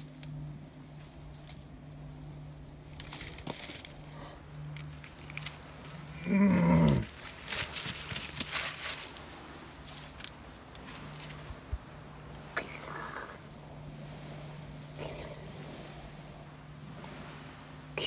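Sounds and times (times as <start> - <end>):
dry leaves rustling: 0.0 - 17.4
faint low hum: 0.0 - 18.0.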